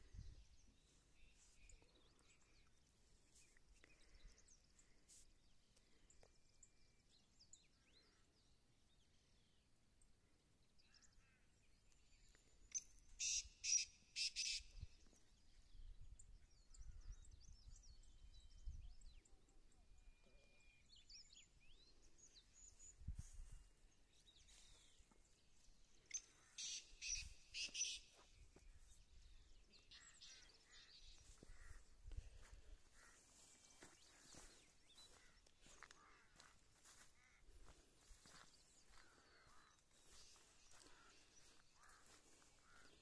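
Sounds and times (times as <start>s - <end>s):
small birds chirping faintly: 0.0s - 43.0s.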